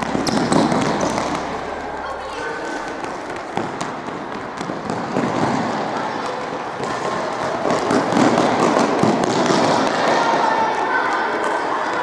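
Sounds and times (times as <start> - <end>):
children's feet running: 0.0 - 12.0.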